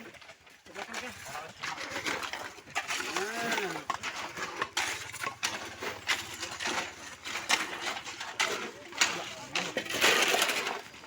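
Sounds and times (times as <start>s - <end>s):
hand tools scraping road surface: 0.0s - 11.0s.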